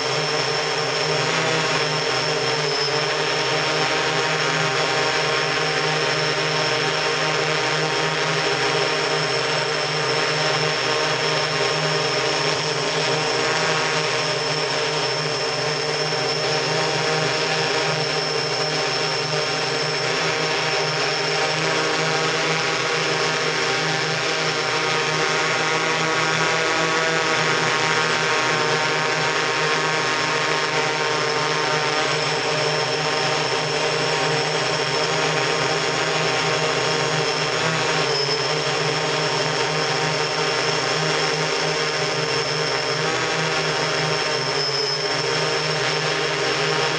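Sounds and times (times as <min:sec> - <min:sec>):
drone motors buzzing: 0:00.0 - 0:46.9.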